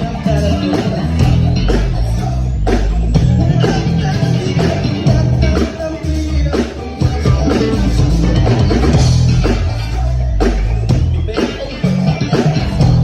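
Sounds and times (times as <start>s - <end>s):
drum kit steady beat: 0.0s - 13.0s
electric bass low notes: 0.0s - 13.0s.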